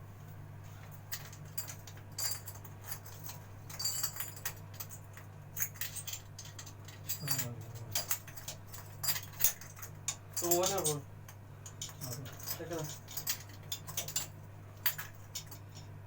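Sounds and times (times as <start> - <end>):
steady low hum: 0.0 - 16.0
light metallic clinks and taps: 0.9 - 15.9.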